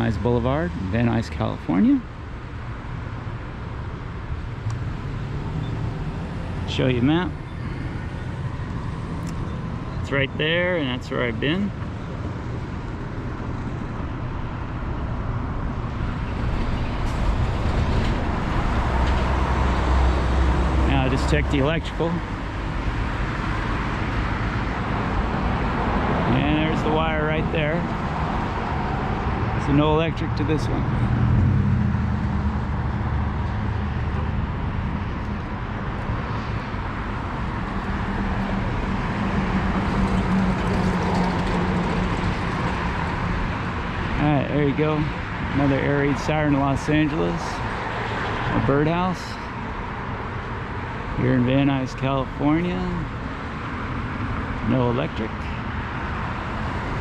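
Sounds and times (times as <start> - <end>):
road traffic rumble: 0.0 - 57.0
passing cars rushing: 2.1 - 10.0, 11.7 - 57.0.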